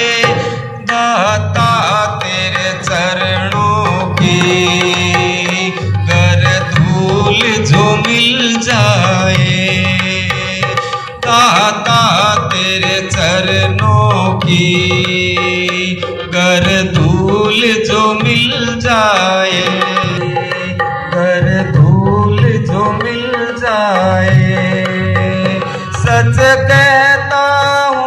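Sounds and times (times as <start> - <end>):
hand-drum percussion: 0.0 - 28.0.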